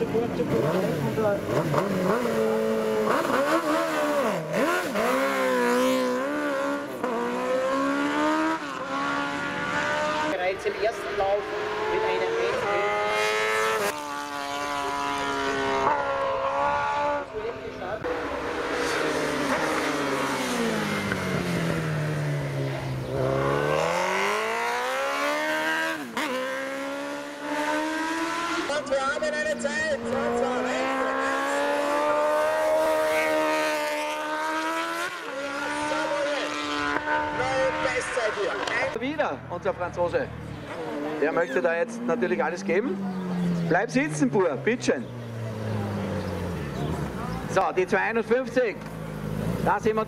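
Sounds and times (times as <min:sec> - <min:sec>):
motorcycle engine at high revs: 0:00.0 - 0:50.0.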